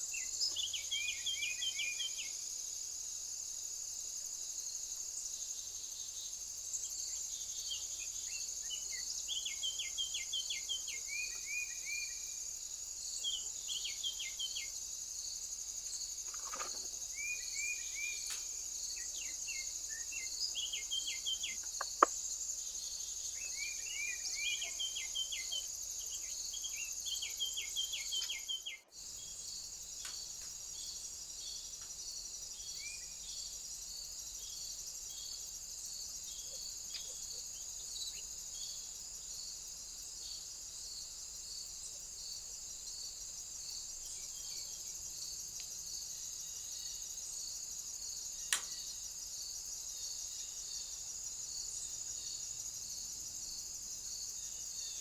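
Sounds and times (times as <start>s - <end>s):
small birds chirping: 0.0s - 2.5s, 5.0s - 47.2s
insects trilling: 0.0s - 55.0s.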